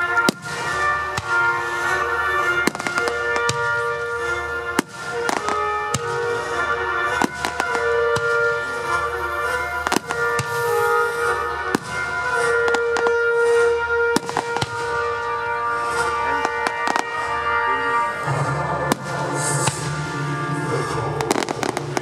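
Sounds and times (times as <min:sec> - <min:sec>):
fireworks bangs: 0:00.0 - 0:22.0
music with long held notes: 0:00.0 - 0:22.0.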